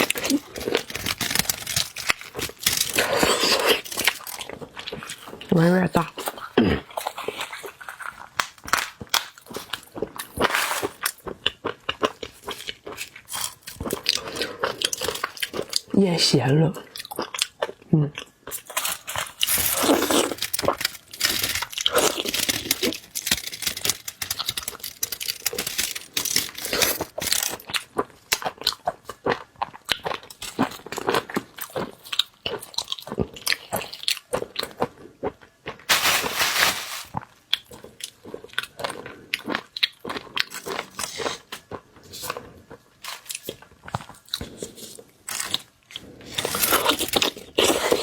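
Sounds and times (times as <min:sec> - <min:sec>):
chewing crunchy seafood: 0:00.0 - 0:16.0, 0:16.6 - 0:35.9, 0:37.2 - 0:48.0.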